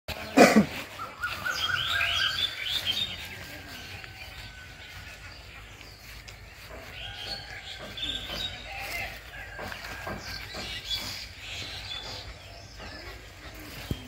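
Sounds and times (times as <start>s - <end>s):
faint outdoor background: 0.1s - 14.0s
bird chirping: 0.2s - 14.0s.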